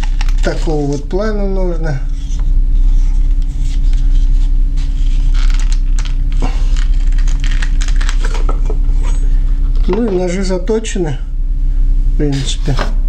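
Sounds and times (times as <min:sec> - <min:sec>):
low hum with constant tone: 0:00.0 - 0:13.0.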